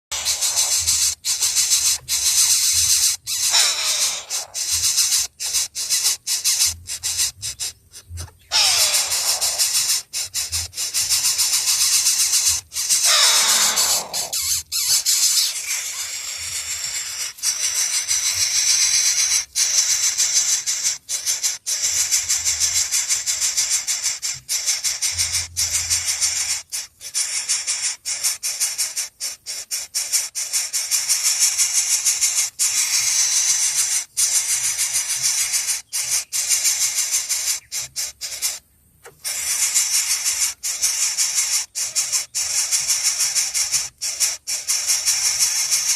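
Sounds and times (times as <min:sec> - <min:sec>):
baby birds begging chatter: 0:00.0 - 0:45.9.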